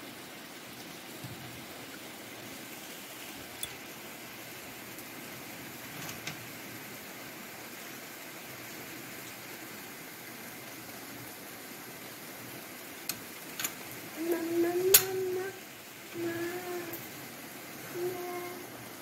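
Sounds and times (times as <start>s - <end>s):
rain falling on trees and concrete: 0.0s - 19.0s.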